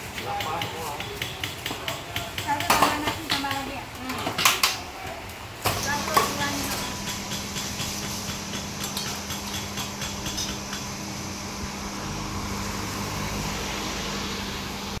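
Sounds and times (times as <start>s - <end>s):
electric fan hum: 0.0s - 15.0s
low rumble of traffic: 0.0s - 15.0s
street ambience: 0.0s - 15.0s.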